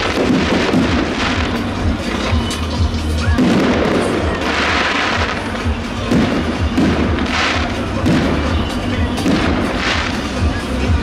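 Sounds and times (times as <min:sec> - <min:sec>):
fireworks crackling: 0:00.0 - 0:11.0
fireworks low thumps: 0:00.0 - 0:11.0
music playing: 0:00.0 - 0:11.0.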